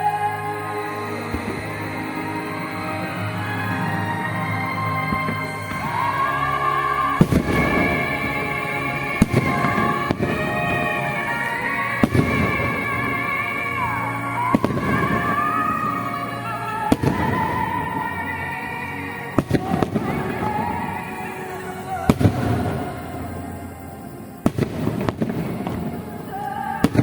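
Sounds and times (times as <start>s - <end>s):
fireworks bursting with sharp bangs: 0.0s - 27.0s
loud music with sustained melody: 0.0s - 27.0s.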